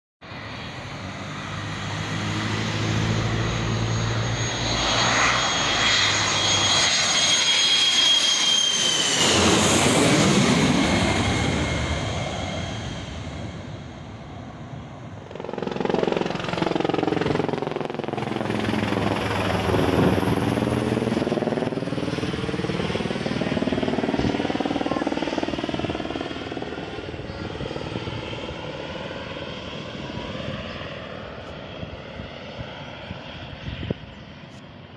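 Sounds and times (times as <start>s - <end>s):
jet aircraft passing overhead: 0.2s - 34.9s
high turbine whine: 0.3s - 34.9s.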